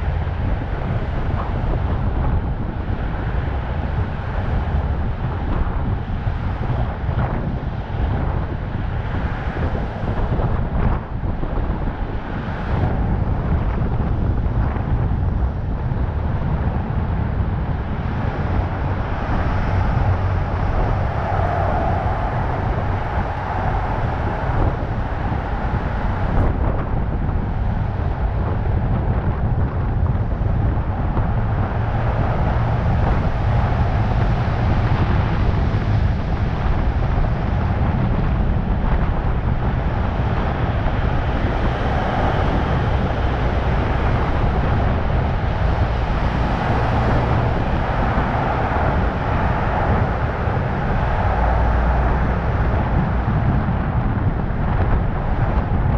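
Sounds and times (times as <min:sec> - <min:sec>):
vehicle engine and tyres rumble: 0:00.0 - 0:55.9
wind buffeting microphone: 0:00.0 - 0:55.9.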